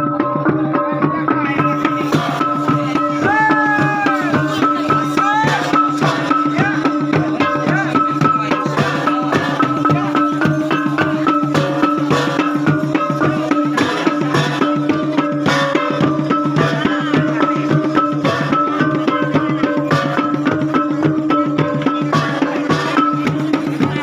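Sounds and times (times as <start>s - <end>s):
fast drum strokes: 0.0s - 24.0s.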